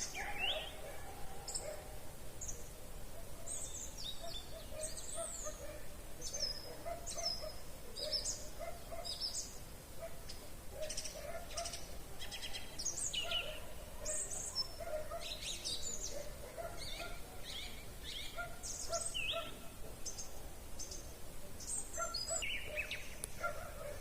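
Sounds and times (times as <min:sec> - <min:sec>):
songbirds chorus: 0:00.0 - 0:24.0.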